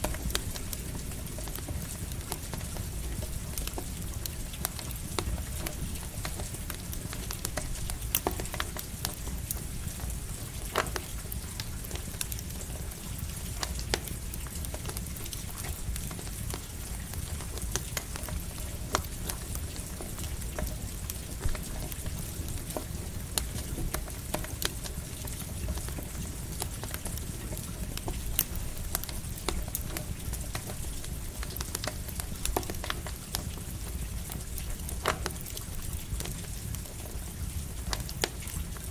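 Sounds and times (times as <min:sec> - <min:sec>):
campfire crackling: 0:00.0 - 0:38.9
light rain hissing: 0:00.0 - 0:38.9.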